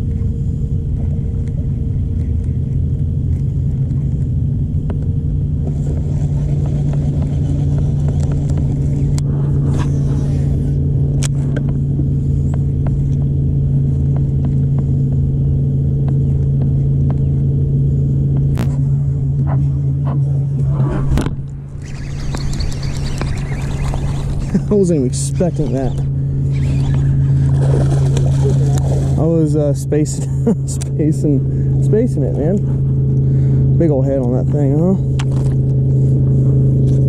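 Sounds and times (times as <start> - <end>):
electric trolling motor humming: 0.0 - 37.0.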